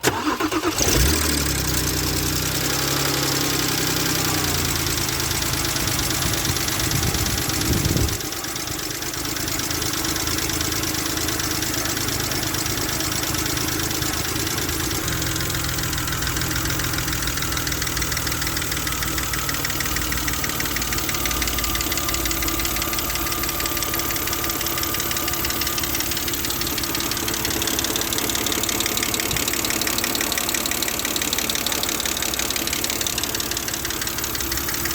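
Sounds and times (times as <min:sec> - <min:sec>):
car engine idling: 0:00.0 - 0:34.9
valvetrain ticking: 0:01.8 - 0:34.9.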